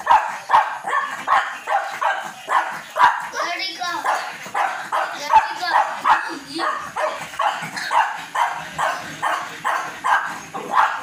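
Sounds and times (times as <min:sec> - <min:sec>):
small dog barking: 0:00.0 - 0:11.0.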